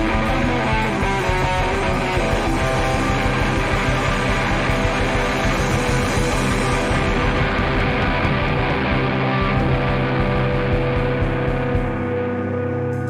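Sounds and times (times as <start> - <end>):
electric guitar line: 0.0 - 13.0
live band playing: 0.0 - 13.0.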